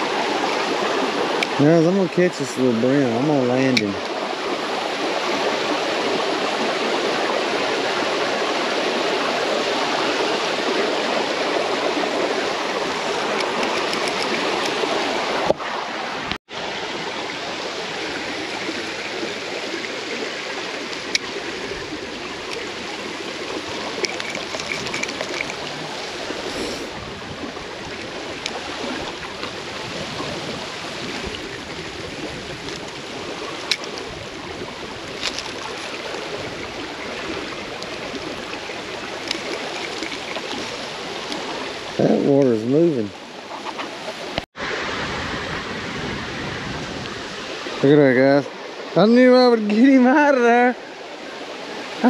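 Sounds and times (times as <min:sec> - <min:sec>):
water rushing down a ditch: 0:00.0 - 0:52.0.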